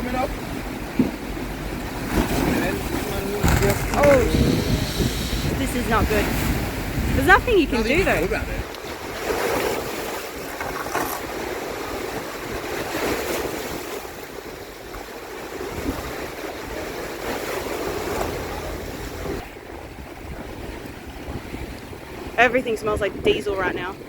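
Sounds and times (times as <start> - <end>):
waves surging and splashing: 0.0 - 24.0
wind on microphone: 0.2 - 24.0.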